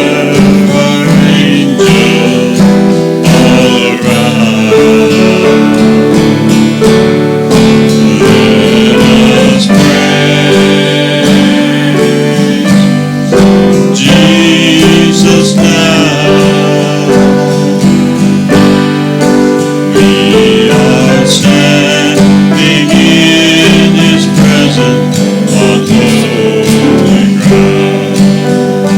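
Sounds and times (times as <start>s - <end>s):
strummed acoustic guitar music: 0.0s - 28.9s.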